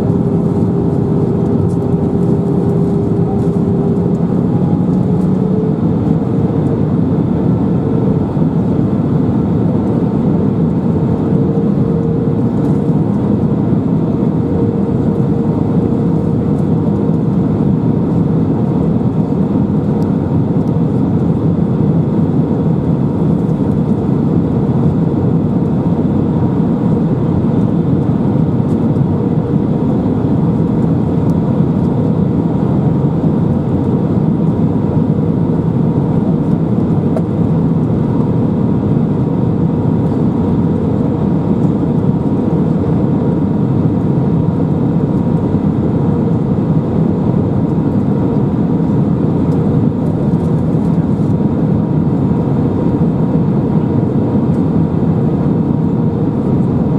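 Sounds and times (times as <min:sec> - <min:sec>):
airplane cabin engine drone: 0:00.0 - 0:56.9
faint steady whine: 0:00.0 - 0:56.9.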